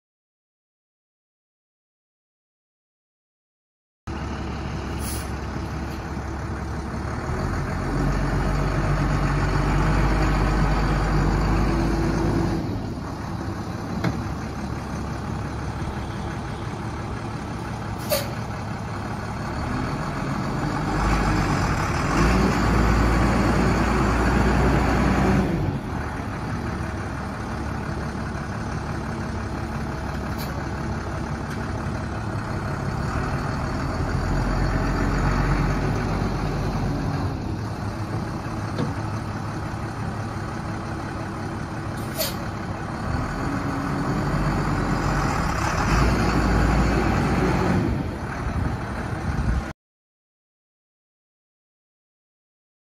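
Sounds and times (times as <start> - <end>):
diesel truck engine running: 4.1 - 49.7.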